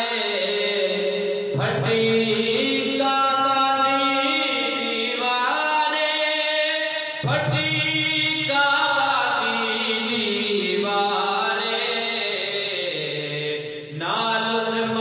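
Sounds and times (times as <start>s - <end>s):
devotional vocal chanting: 0.0s - 15.0s.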